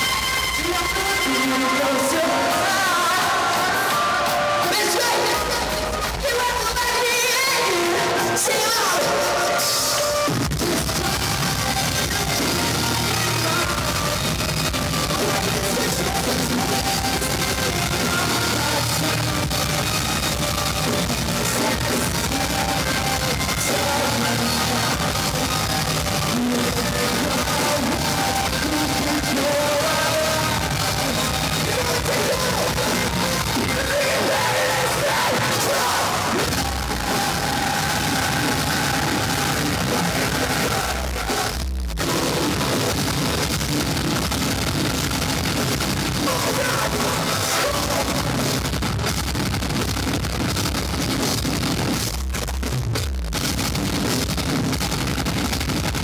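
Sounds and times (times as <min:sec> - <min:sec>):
yelled vocals: 0:00.0 - 0:49.1
live metal band playing: 0:00.0 - 0:52.4.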